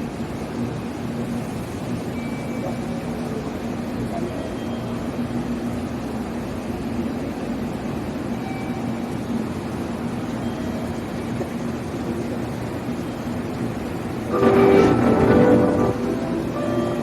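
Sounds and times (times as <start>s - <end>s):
train mechanical hum: 0.0s - 17.0s.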